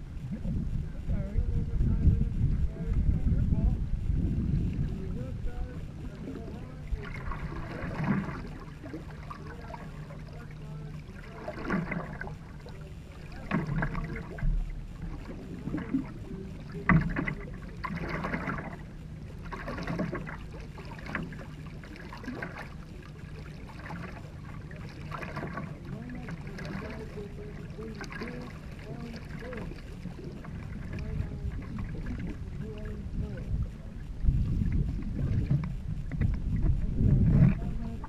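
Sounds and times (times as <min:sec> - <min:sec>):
low steady hum: 0:00.0 - 0:38.0
paddle strokes in water: 0:04.0 - 0:38.0.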